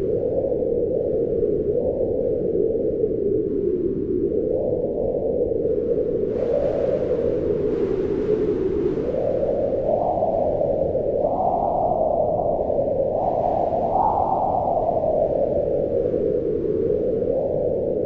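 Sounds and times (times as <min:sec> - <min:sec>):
howling wind: 0:00.0 - 0:18.0.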